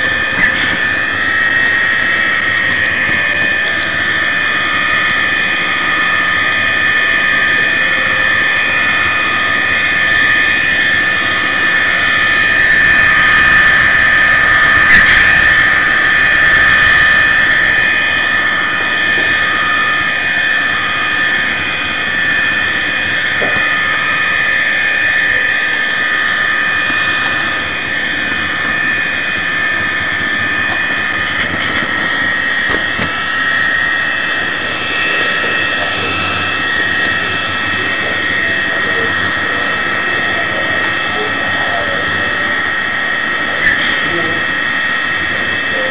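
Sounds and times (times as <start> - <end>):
diesel engine sound from small speaker: 0.0 - 45.9
model train motor whine: 0.0 - 45.9.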